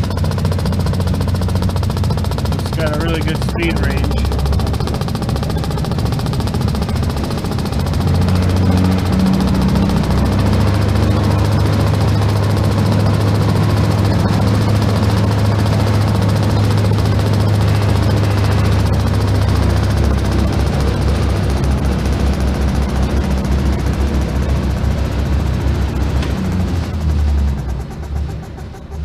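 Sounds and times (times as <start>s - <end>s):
band saw motor hum: 0.0s - 29.0s.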